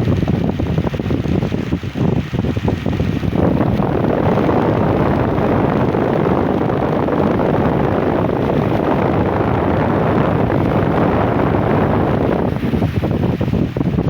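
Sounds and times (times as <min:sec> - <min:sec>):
electric fan blowing on microphone: 0:00.0 - 0:14.0.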